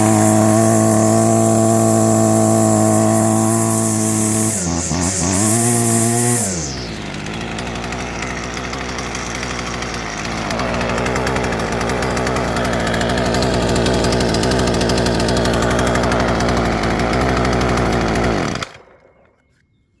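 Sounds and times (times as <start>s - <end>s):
string trimmer engine idling: 0.0s - 19.6s.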